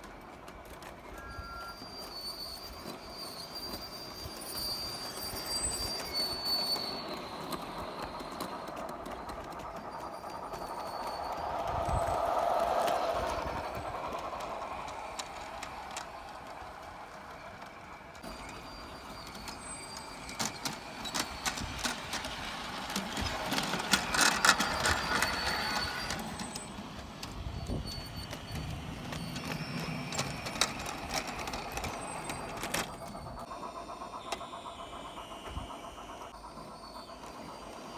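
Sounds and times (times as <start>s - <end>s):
toy train motor whir: 0.0s - 37.9s
wheels clattering over track: 0.0s - 37.9s.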